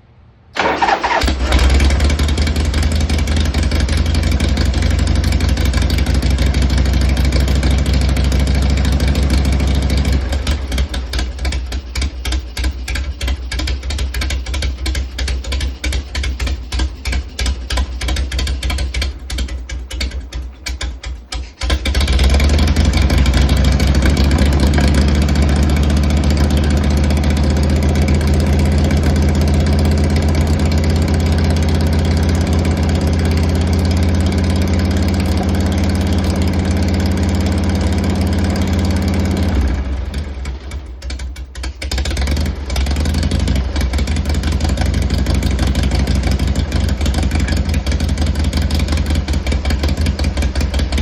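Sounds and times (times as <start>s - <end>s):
motorcycle engine cranking: 0.6s - 51.0s
motorcycle engine running: 0.6s - 51.0s.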